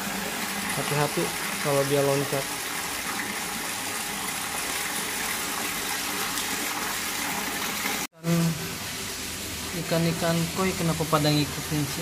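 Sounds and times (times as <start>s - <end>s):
water jet splashing into pond: 0.0s - 12.0s.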